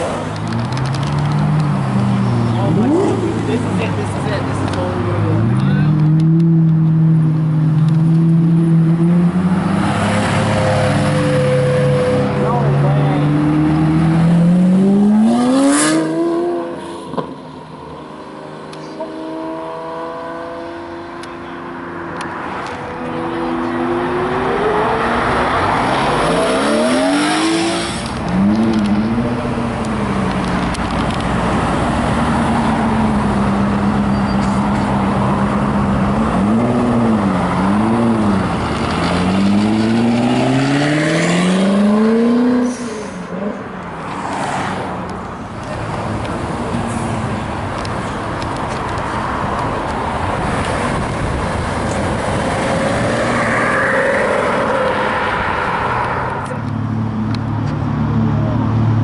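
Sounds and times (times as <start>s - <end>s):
road noise: 0.0s - 59.0s
sports car engines revving: 0.0s - 59.0s.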